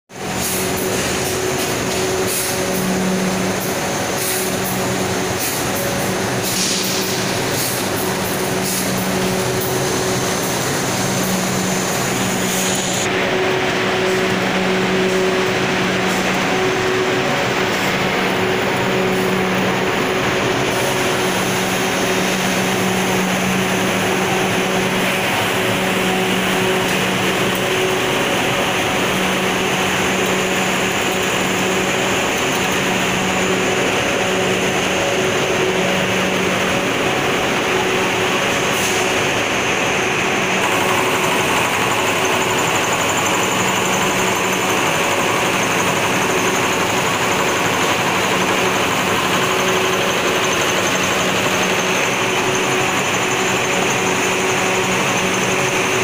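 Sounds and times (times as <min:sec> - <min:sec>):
machinery humming in pulses: 0:00.1 - 0:56.0.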